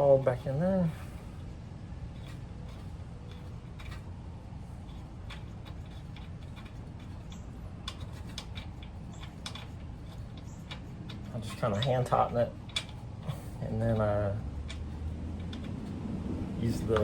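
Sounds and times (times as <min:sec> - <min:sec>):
steady low hum: 0:00.0 - 0:17.0
metallic clicks and ticks: 0:02.1 - 0:16.0, 0:16.7 - 0:17.0.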